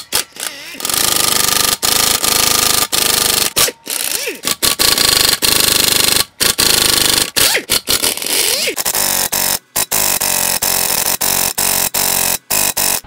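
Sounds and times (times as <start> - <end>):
pneumatic impact wrench hammering: 0.0 - 13.0.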